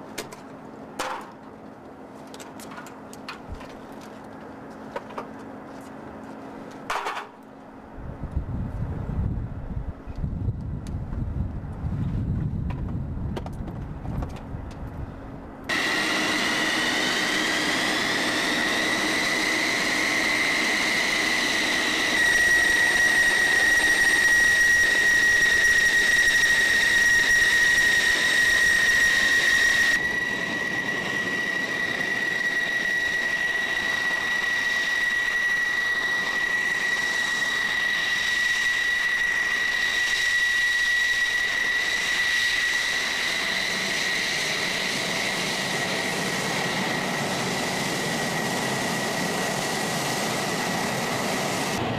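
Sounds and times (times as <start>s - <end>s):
jet engine whining: 0.0s - 51.9s.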